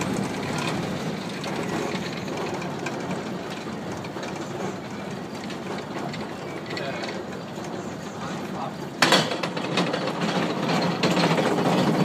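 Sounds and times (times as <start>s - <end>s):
railcar running noise: 0.0s - 12.0s
wheels clicking on rails: 0.0s - 12.0s.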